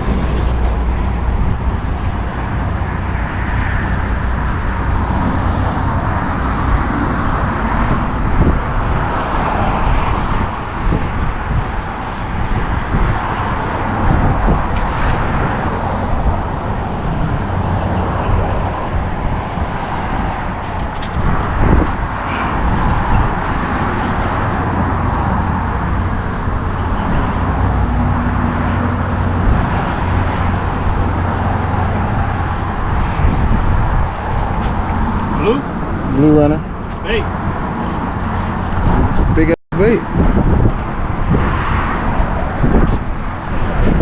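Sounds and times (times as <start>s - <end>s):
road traffic rumble and tyre hiss: 0.0s - 44.0s.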